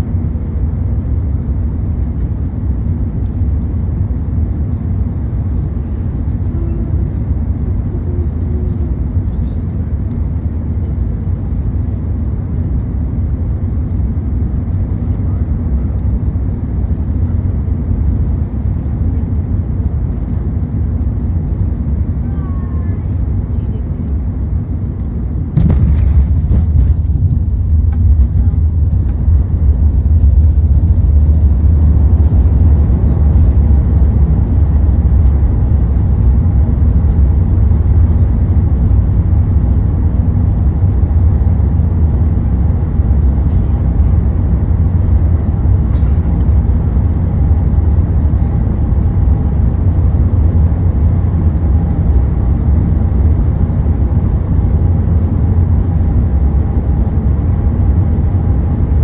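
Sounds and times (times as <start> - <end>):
airplane cabin low rumble: 0.0 - 59.0
faint steady whine: 0.0 - 59.0.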